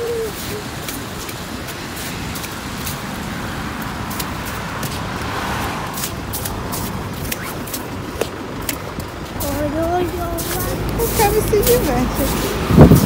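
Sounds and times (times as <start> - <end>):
car and tyre noise: 0.0 - 13.0
vehicle passing: 0.0 - 13.0.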